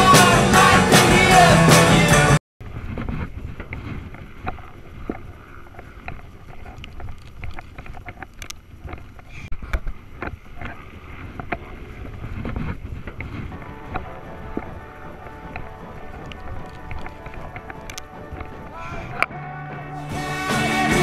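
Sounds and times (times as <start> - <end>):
wind on microphone: 2.6 - 19.9.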